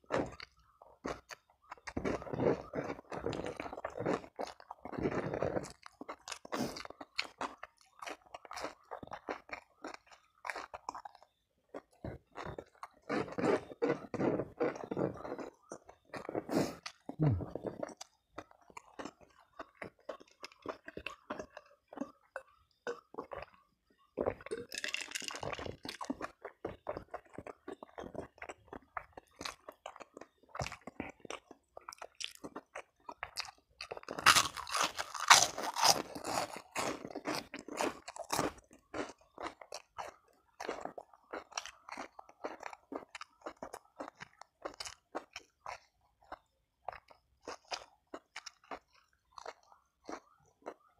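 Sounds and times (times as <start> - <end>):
chewing and crunching crisp food: 0.0 - 50.9.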